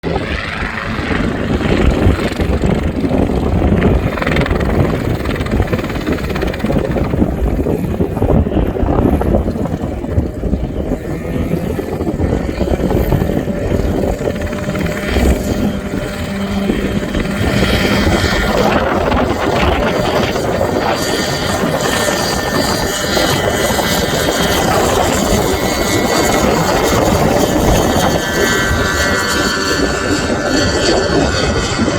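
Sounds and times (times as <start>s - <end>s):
helicopter engine and rotor rumble: 0.0s - 31.9s.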